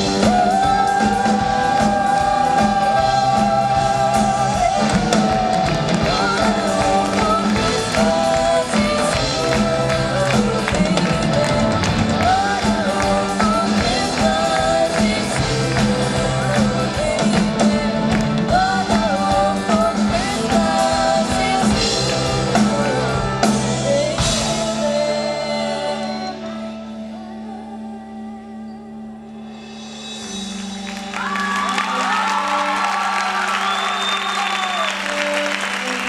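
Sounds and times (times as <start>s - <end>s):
person singing: 0.0s - 29.7s, 31.2s - 36.0s
drums: 0.0s - 36.0s
live band playing: 0.0s - 36.0s.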